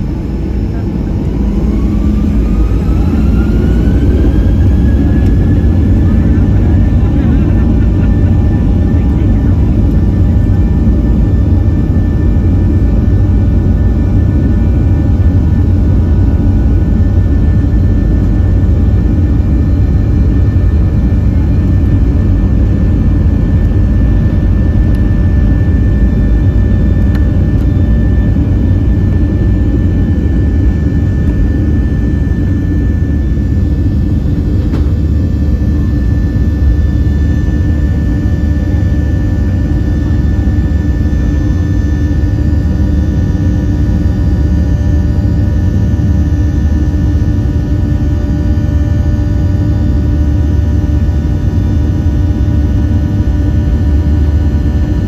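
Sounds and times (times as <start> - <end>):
jet engines at takeoff thrust: 0.0 - 55.0.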